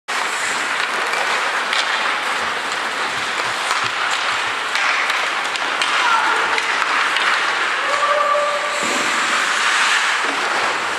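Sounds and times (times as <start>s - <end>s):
indoor rink hissing noise: 0.1s - 10.9s.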